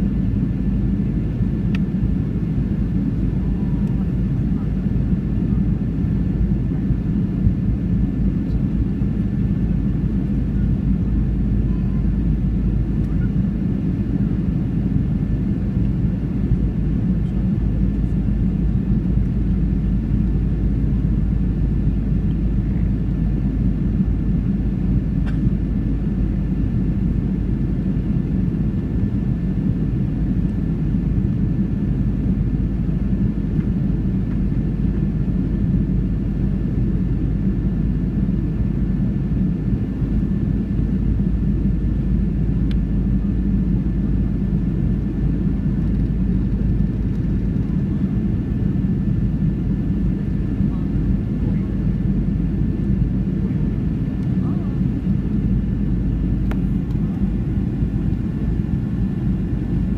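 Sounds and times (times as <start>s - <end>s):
airflow over flaps: 0.0s - 59.9s
faint steady whine: 0.0s - 59.9s
jet engine low rumble: 0.0s - 59.9s.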